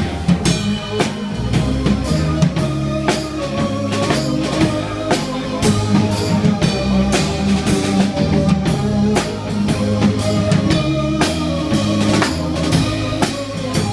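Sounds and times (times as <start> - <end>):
drum kit steady beat: 0.0 - 13.9
rock band playing: 0.0 - 13.9.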